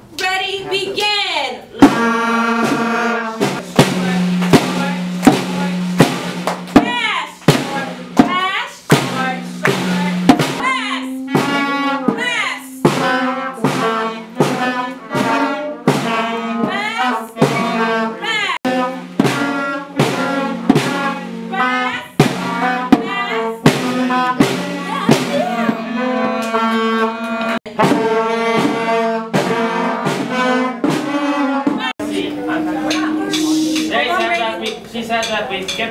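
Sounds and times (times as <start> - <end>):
wind and brass held notes: 1.8 - 6.8, 9.1 - 35.2
snare drums in a steady beat: 1.8 - 35.9.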